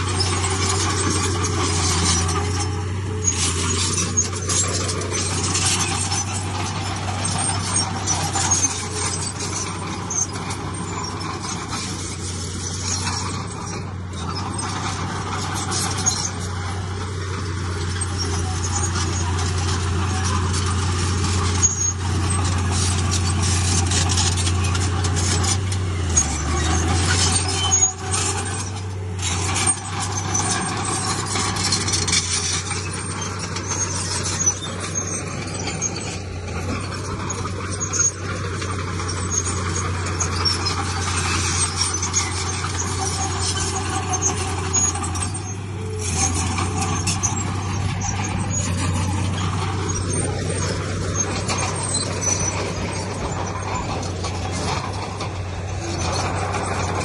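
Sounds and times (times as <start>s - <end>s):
diesel machinery engine drone: 0.0s - 57.0s
metal clanks and knocks: 0.0s - 57.0s.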